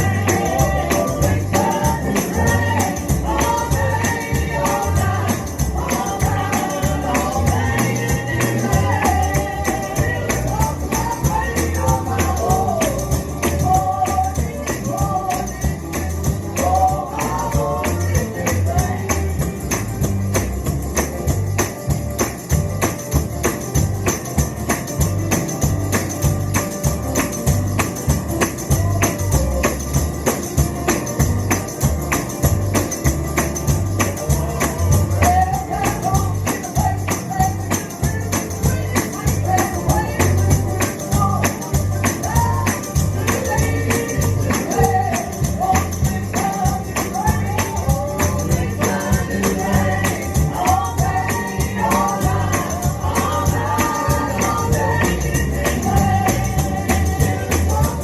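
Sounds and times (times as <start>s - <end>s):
bass-heavy band playing: 0.0s - 58.0s
tambourine struck in fast rhythm: 0.0s - 58.0s
voices singing: 0.0s - 58.0s.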